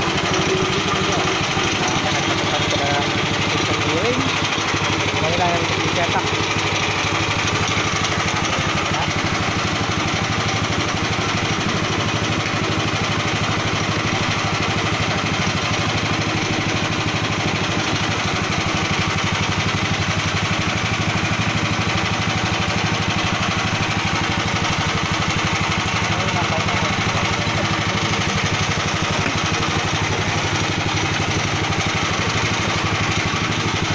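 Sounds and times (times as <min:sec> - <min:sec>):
pellet mill motor drone: 0:00.0 - 0:33.9.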